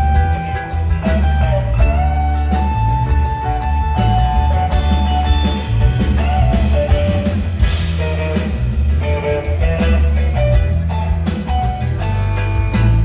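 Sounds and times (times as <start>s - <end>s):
heavy electric bass: 0.0s - 13.0s
live rock band playing: 0.0s - 13.0s.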